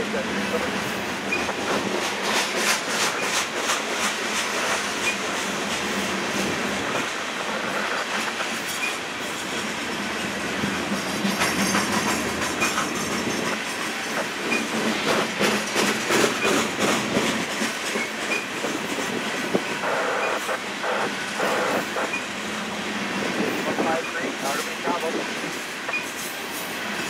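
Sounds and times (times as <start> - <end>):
train cars clicking and clanking: 0.0 - 27.0
train wheels rumbling on rail: 0.0 - 27.0.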